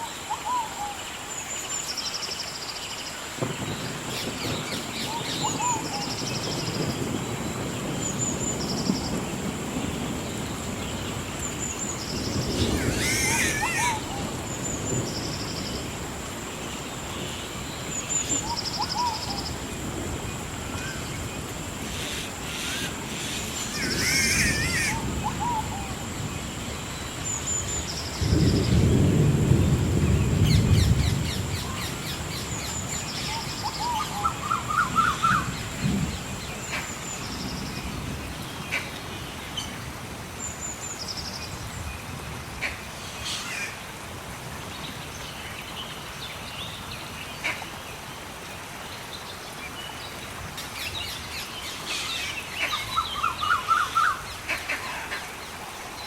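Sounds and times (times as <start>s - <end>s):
soft rain hiss: 0.0s - 56.0s
songbirds chirping and trilling: 0.0s - 56.0s.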